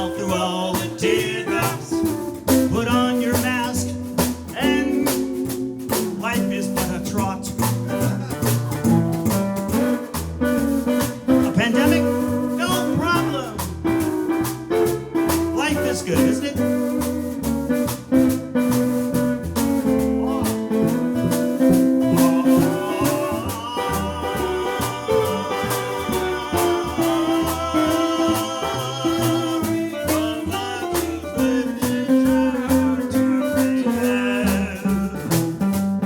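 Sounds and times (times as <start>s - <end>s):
swing jazz band playing: 0.0s - 36.0s.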